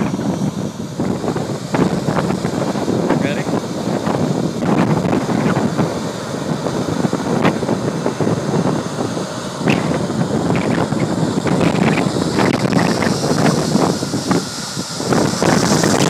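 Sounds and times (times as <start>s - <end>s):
jet blast buffeting microphone: 0.0s - 16.0s
jet engines at takeoff thrust: 0.0s - 16.0s.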